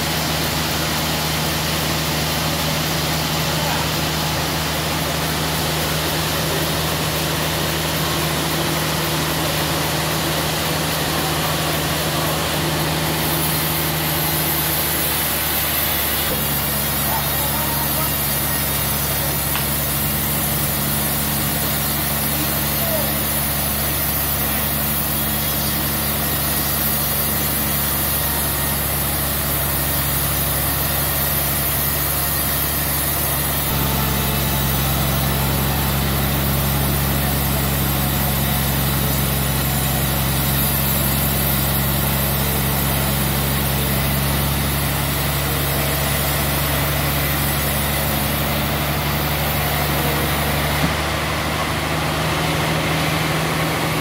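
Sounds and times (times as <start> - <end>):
band sawmill machinery humming: 0.0 - 54.0.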